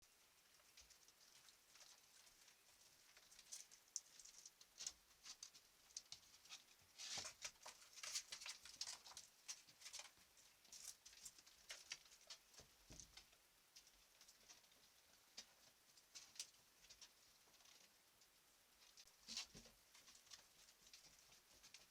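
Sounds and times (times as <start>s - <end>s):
small animal footsteps scratching: 0.3s - 21.9s.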